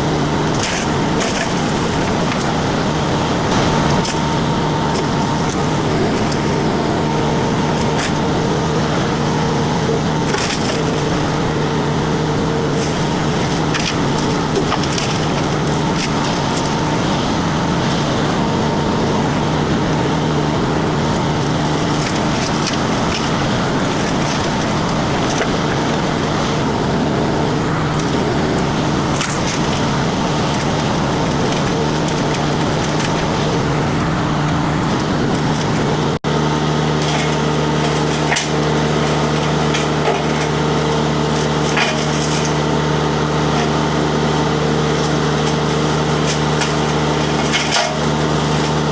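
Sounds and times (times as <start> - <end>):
diesel engine running: 0.0 - 48.9
mulcher splintering wood: 0.0 - 48.9.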